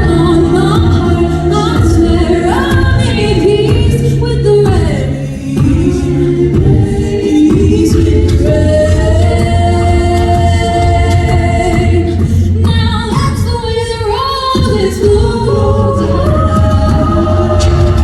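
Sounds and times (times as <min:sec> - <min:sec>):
choir singing a cappella: 0:00.0 - 0:18.0.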